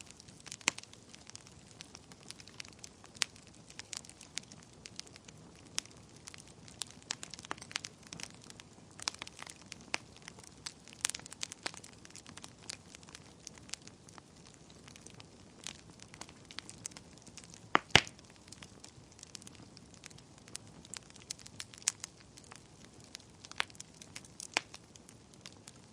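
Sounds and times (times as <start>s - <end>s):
fire popping: 0.0s - 25.9s
wood fire crackling: 0.0s - 25.9s.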